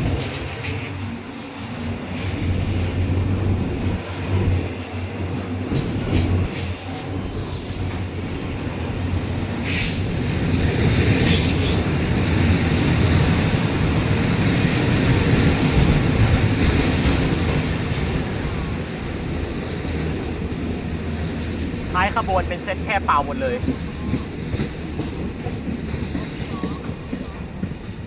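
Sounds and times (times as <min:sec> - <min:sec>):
train wheels rumbling on rails: 0:00.0 - 0:21.9, 0:23.6 - 0:28.0.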